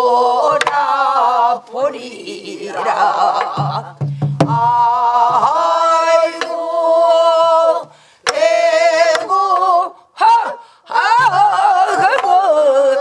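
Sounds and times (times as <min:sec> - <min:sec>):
voices singing folk song: 0:00.0 - 0:13.0.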